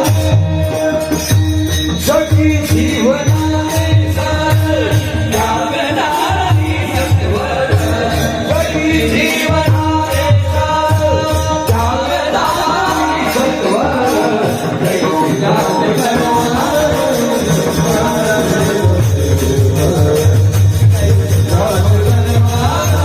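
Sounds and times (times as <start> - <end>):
drum beat: 0.0 - 23.0
jingling hand percussion: 0.0 - 23.0.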